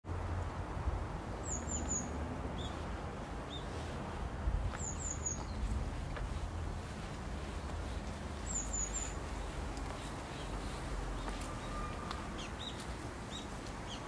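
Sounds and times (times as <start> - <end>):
low outdoor rumble: 0.1 - 12.4
small birds chirping: 1.4 - 4.0, 4.7 - 14.0.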